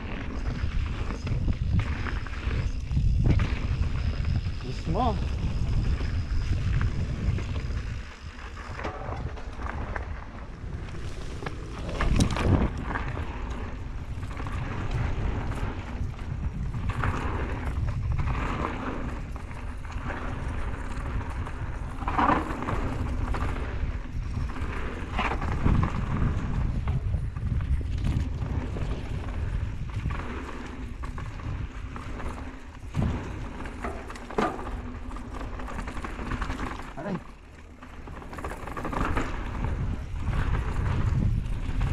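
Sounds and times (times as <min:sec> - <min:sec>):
bike rattling over bumps: 0:00.0 - 0:41.9
bike tyre rumble: 0:00.0 - 0:41.9
wind buffeting microphone: 0:00.0 - 0:41.9.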